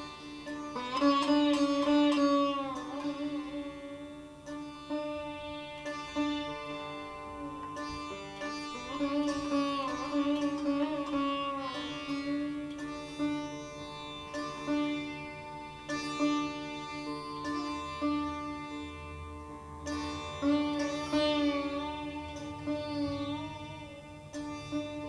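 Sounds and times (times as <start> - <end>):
sitar playing: 0.0 - 25.0.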